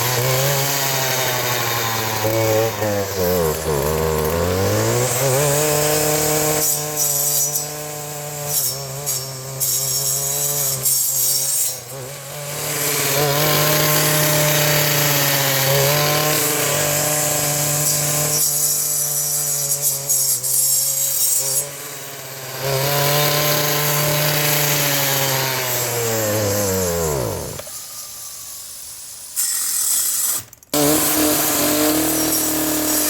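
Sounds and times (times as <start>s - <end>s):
brush cutter engine running: 0.0s - 27.7s, 30.8s - 33.0s.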